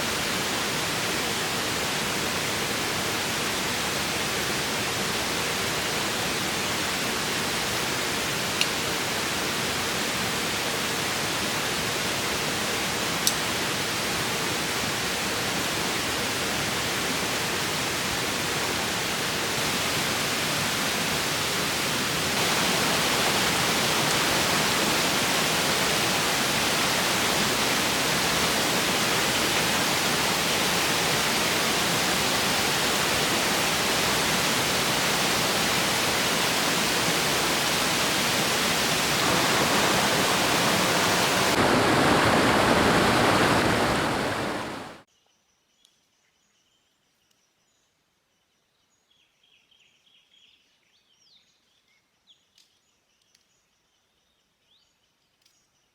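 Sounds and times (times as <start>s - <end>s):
river water rushing: 0.0s - 45.1s.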